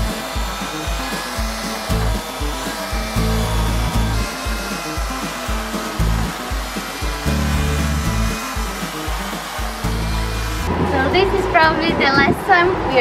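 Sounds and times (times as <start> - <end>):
background music with bass beat: 0.0 - 11.1
electric chainsaw cutting timber: 0.0 - 13.0.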